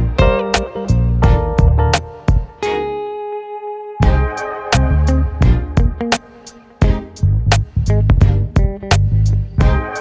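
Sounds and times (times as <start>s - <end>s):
plucked instrumental music: 0.0s - 10.0s.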